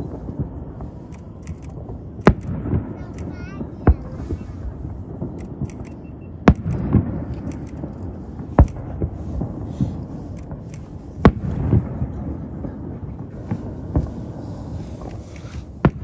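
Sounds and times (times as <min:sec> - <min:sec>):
firework shells bursting: 0:00.0 - 0:16.0
small firework pops: 0:00.0 - 0:16.0.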